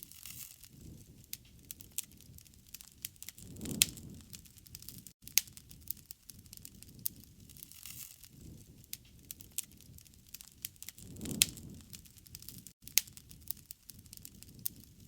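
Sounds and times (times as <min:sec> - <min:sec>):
campfire wood crackling: 0:00.0 - 0:15.0
low rumble of burning: 0:00.0 - 0:15.0.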